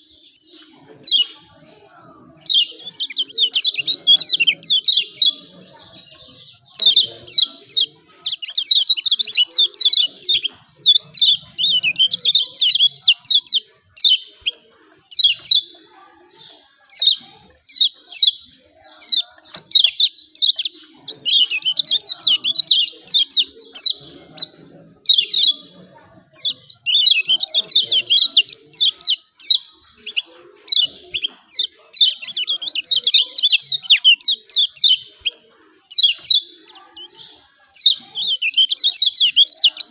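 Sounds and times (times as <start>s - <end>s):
bird chirping rapidly: 2.3s - 39.9s.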